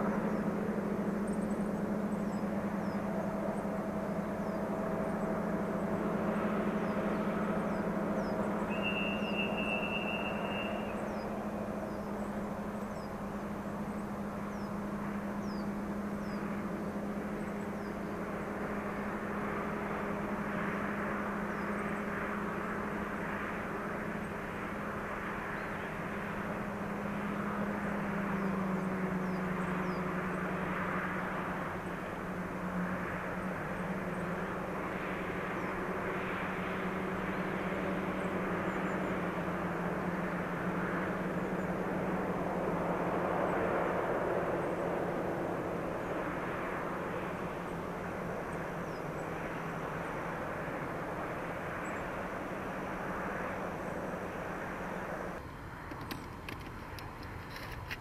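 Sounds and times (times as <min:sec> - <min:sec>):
distant diesel locomotive engines droning: 0:00.0 - 0:58.0.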